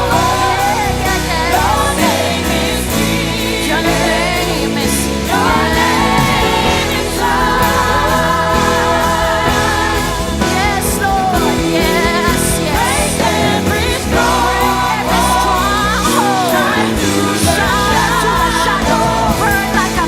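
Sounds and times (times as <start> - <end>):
band with bass and keyboard: 0.0 - 20.0
singers holding long notes: 0.0 - 20.0.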